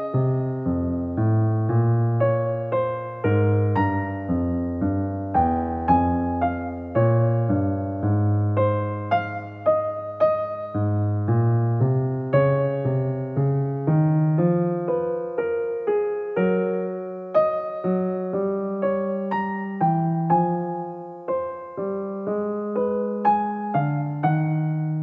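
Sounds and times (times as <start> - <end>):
solo piano melody: 0.0 - 25.0.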